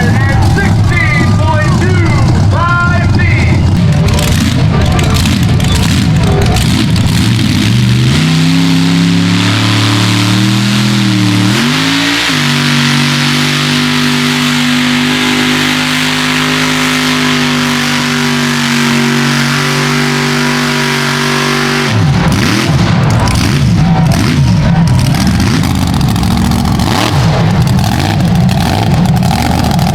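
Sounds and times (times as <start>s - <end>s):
truck engine revving at full throttle: 0.0s - 29.9s.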